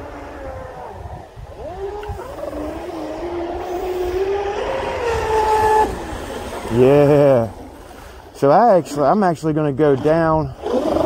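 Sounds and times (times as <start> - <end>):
model boat motor whine: 0.0 - 8.3, 9.1 - 11.0.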